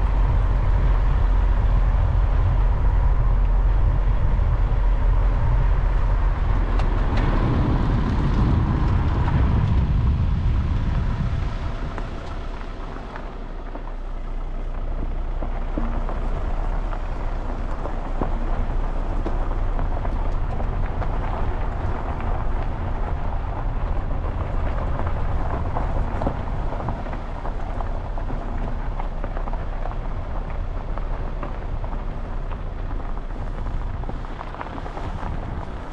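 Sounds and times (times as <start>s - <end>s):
heavy low rumble: 0.0s - 35.9s
tyres crackling over gravel: 0.0s - 35.9s.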